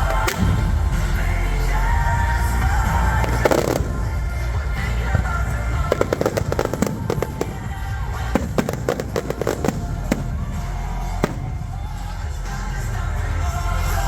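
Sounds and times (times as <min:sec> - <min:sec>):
fireworks bangs and crackles: 0:00.0 - 0:13.2
music: 0:00.0 - 0:14.0.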